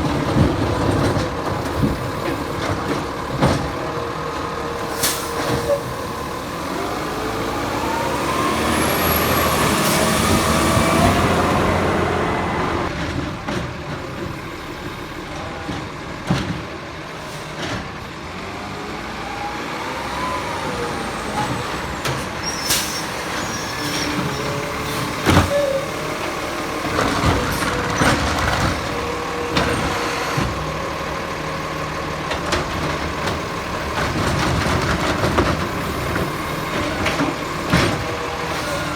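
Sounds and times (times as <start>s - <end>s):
garbage truck engine revving: 0.0s - 13.5s, 17.6s - 38.9s.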